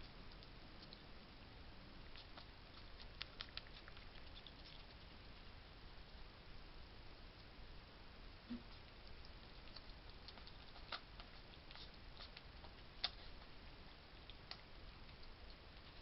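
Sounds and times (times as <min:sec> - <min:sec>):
hedgehog chewing dry food: 0:00.0 - 0:01.4, 0:02.0 - 0:06.3, 0:08.5 - 0:16.0
steady low hiss: 0:00.0 - 0:16.0.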